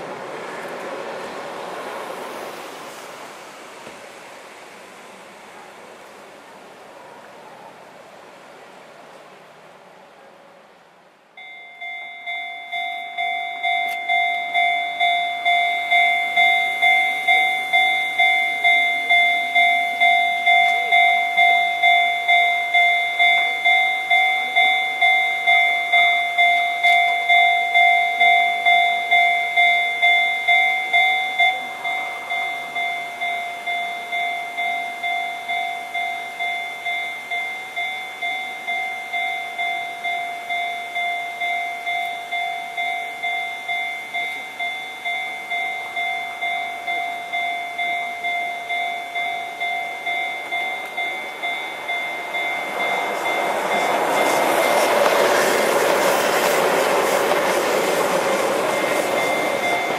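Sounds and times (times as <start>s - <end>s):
level crossing warning bell: 11.4s - 59.9s.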